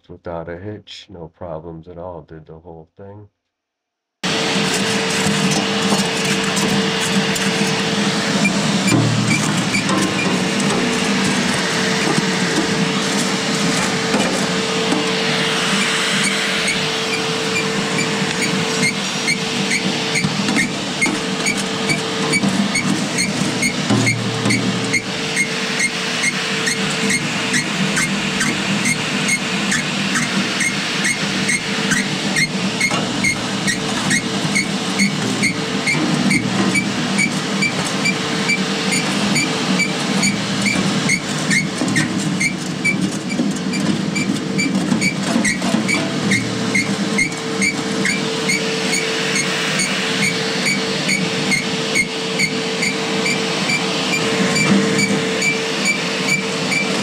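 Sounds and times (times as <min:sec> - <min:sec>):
cement mixer hum: 0:04.2 - 0:57.0.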